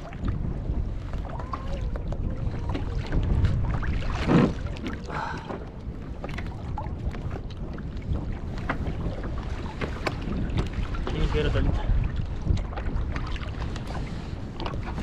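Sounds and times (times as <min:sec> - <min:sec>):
water sounds: 0:00.0 - 0:15.0
wind buffeting microphone: 0:00.0 - 0:15.0.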